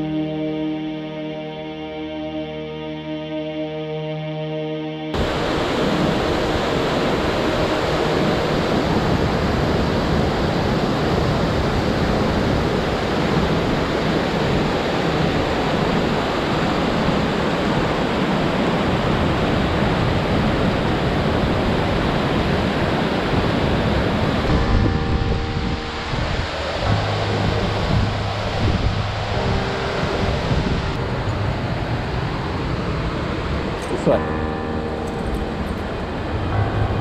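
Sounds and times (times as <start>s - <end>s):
waterfall roaring: 5.2s - 37.0s.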